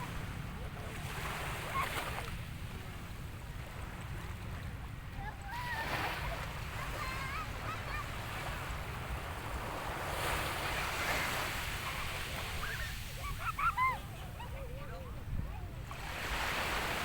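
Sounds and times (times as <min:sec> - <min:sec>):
waves washing on shore: 0:00.0 - 0:17.0.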